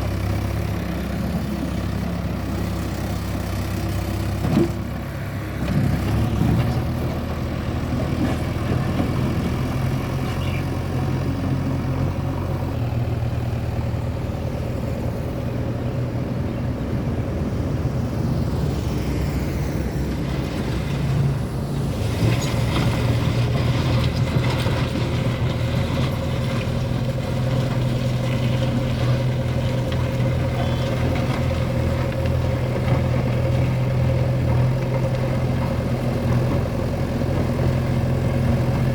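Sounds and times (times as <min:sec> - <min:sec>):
backhoe loader diesel engine: 0:00.0 - 0:38.9.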